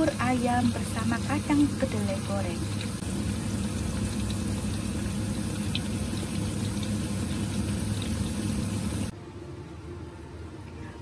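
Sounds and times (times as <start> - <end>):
beans deep-frying in oil: 0.0 - 9.2.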